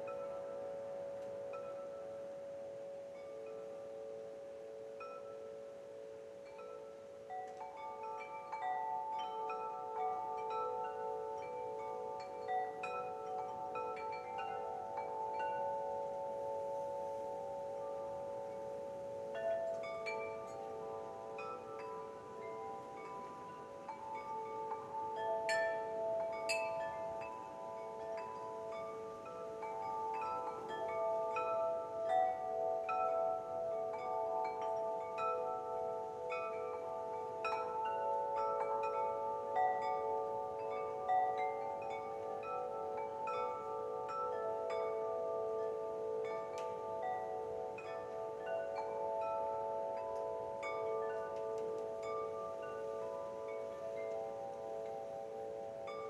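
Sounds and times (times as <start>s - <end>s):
wind chimes ringing: 0.0s - 56.0s.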